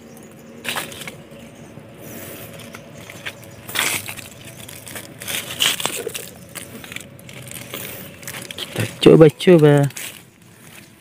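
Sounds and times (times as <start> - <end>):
dry leaves rustling: 0.0 - 11.0.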